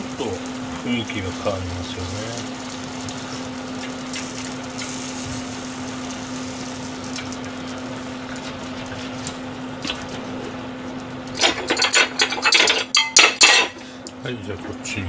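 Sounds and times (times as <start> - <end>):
meat sizzling on grill: 0.0 - 14.9
electric fan hum: 0.0 - 15.0.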